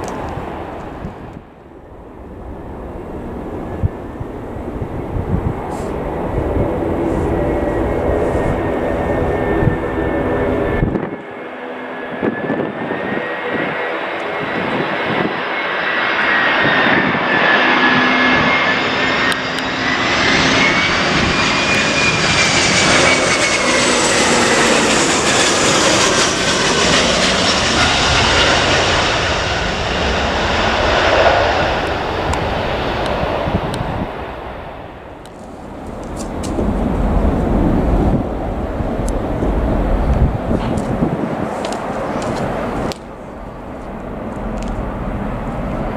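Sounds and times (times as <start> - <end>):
jet engines roaring past: 0.0 - 45.9.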